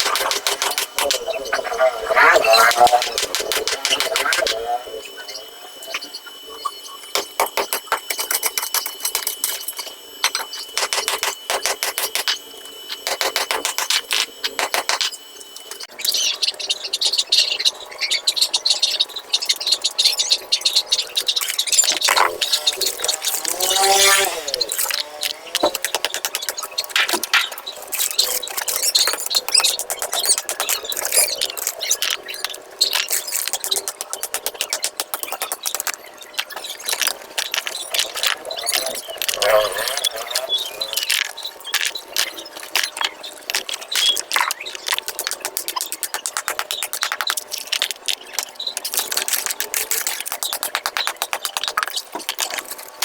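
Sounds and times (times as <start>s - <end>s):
rapid clicking and clacking: 0.0s - 1.3s, 2.6s - 4.6s, 7.2s - 15.2s, 21.4s - 53.0s.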